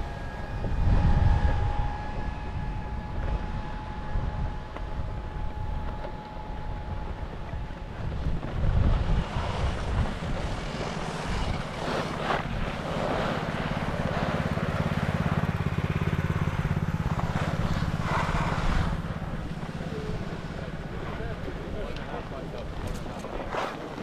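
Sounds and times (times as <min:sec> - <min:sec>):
vehicle engine humming: 0:00.0 - 0:23.5.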